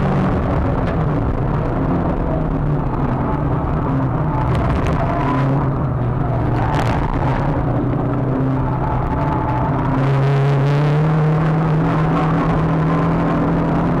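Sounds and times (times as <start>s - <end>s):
car engine running hard: 0.0s - 14.0s
road and wind noise: 0.0s - 14.0s.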